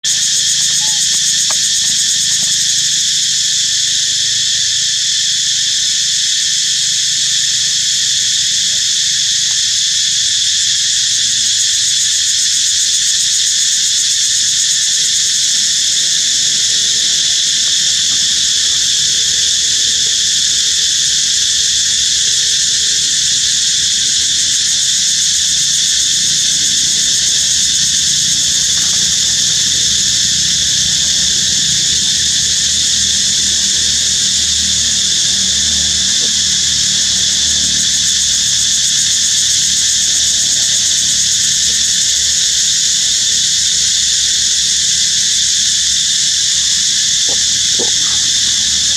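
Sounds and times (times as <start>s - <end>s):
high-pitched insect chorus buzzing: 0.0s - 48.9s.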